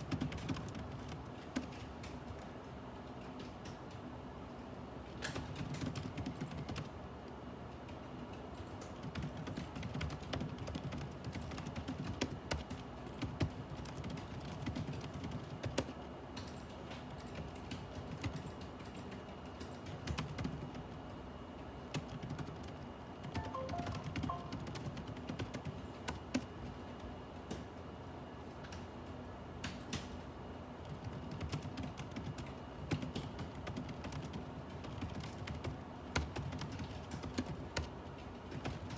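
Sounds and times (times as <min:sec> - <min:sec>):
computer keyboard typing: 0:00.0 - 0:02.4, 0:03.1 - 0:04.1, 0:05.2 - 0:07.0, 0:07.8 - 0:21.2, 0:21.8 - 0:27.6, 0:30.8 - 0:38.9.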